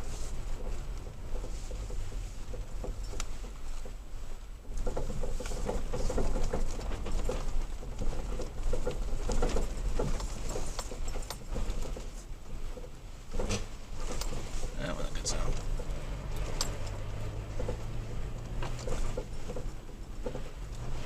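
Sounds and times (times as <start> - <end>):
low engine rumble: 0.0 - 21.0
truck rattling on rough dirt road: 0.0 - 21.0.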